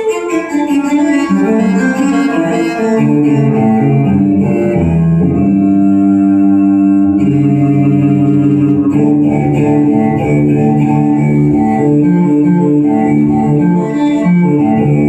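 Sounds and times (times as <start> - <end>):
instrumental music from loudspeakers: 0.0 - 15.0.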